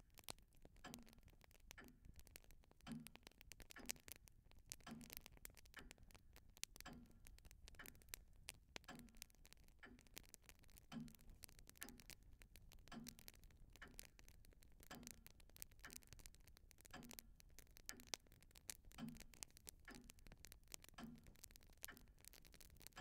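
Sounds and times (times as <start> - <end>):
faint clock ticking: 0.0 - 23.0
small crackles: 0.0 - 23.0.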